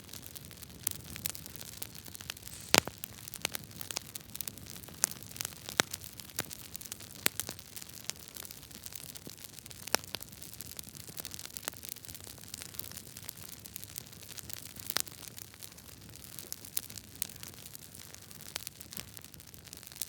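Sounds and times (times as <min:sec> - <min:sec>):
campfire crackling and popping: 0:02.4 - 0:20.0.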